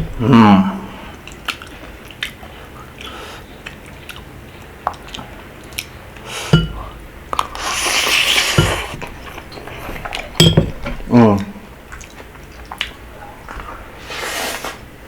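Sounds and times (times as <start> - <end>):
wet chewing: 1.0 - 14.9.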